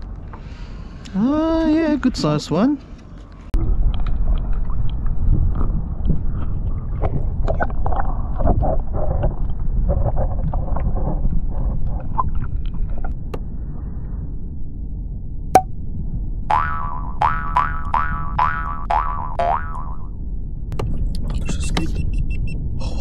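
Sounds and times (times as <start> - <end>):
rumble of moving water: 3.5 - 23.0
wind buffeting microphone: 3.5 - 23.0.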